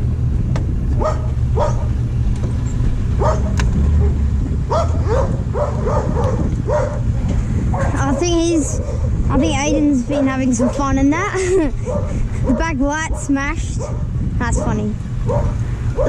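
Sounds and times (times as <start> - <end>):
car engine running: 0.0 - 16.0
dog barking with high yelps: 1.0 - 2.0, 3.2 - 7.1, 7.7 - 16.0.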